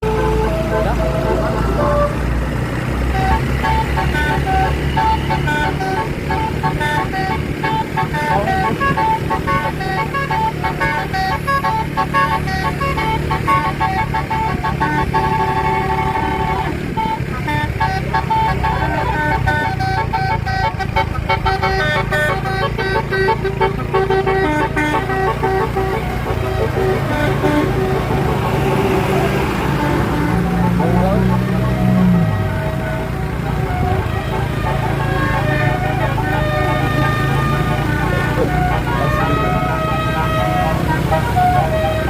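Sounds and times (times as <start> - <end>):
low engine rumble: 0.0 - 42.0
multi-tone bus horn tune: 0.0 - 42.0.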